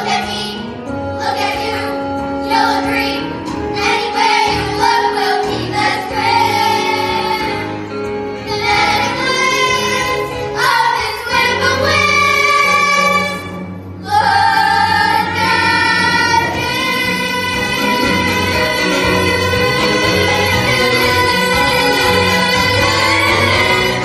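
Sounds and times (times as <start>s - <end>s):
children singing together: 0.0s - 7.8s, 8.5s - 24.0s
instrumental accompaniment: 0.0s - 24.0s.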